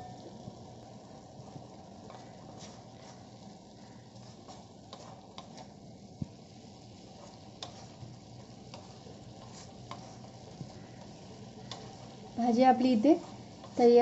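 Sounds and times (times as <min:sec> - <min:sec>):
soft steady sizzle: 0:00.0 - 0:14.0
spatula scraping and tapping pan: 0:01.5 - 0:06.4, 0:07.1 - 0:14.0.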